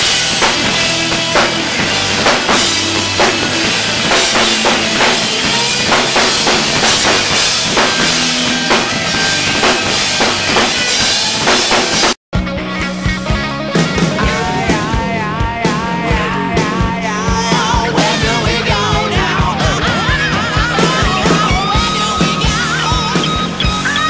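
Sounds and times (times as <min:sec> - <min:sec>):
drum kit beat: 0:00.0 - 0:24.0
electric guitar: 0:00.0 - 0:24.0.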